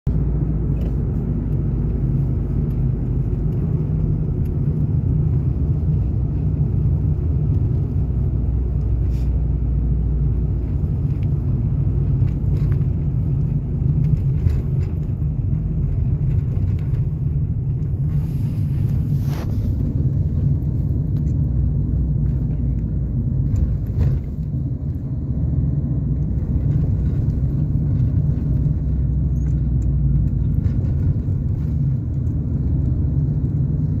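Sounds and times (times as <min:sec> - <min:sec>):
road and engine rumble: 0:00.0 - 0:34.0.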